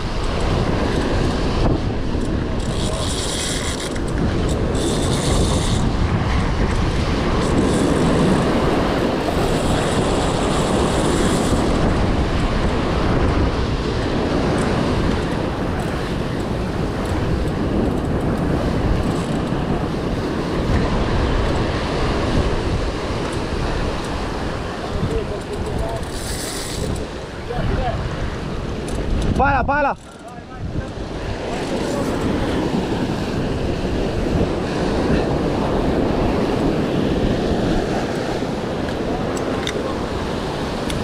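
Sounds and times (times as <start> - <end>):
waves breaking against rocks: 0.0 - 41.0
wind rumbling on microphone: 0.0 - 41.0.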